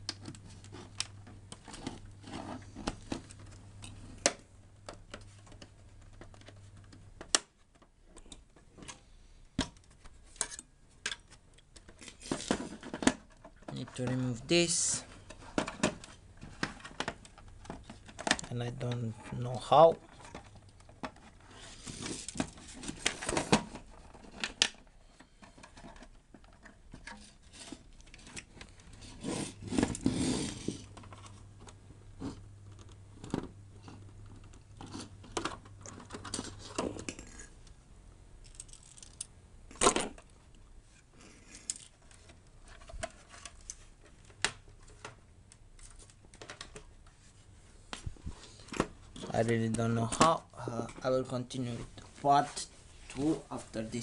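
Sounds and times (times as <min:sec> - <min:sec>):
plastic parts clicking and scraping: 0:00.0 - 0:37.8, 0:38.4 - 0:47.2, 0:47.9 - 0:51.2.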